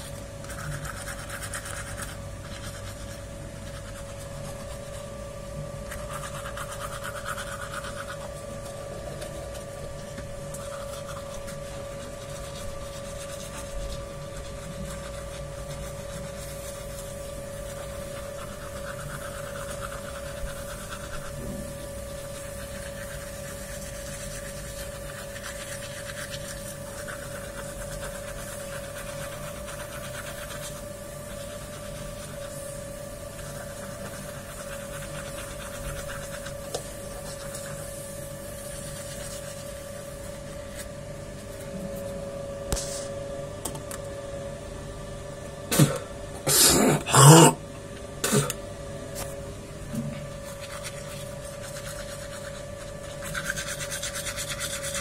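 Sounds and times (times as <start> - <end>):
toothbrush scrubbing teeth: 0.0 - 41.7, 50.2 - 55.0
steady hum: 0.0 - 55.0.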